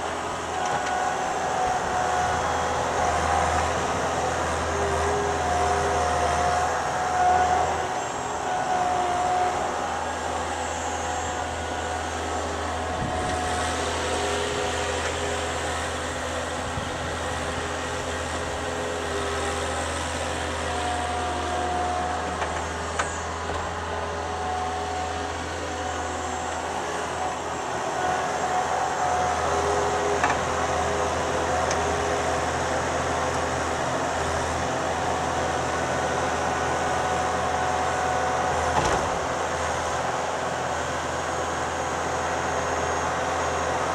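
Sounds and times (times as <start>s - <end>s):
skid steer loader engine running: 0.0s - 43.9s.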